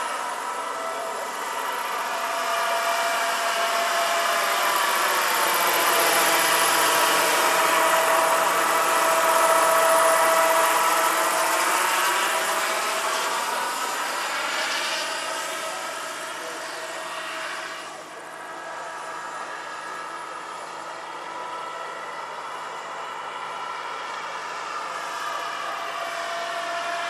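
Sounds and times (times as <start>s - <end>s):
model helicopter turbine whine: 0.0s - 27.0s.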